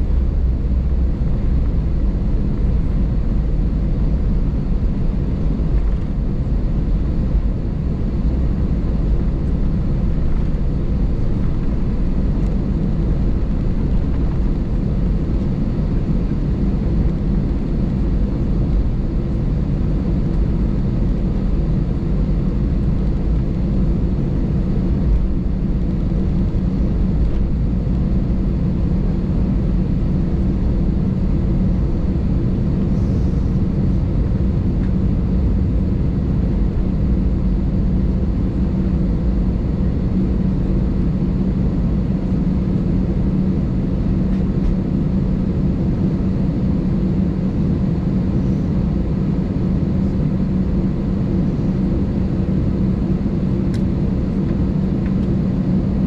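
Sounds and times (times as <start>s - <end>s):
aircraft cabin engine rumble: 0.0s - 56.0s.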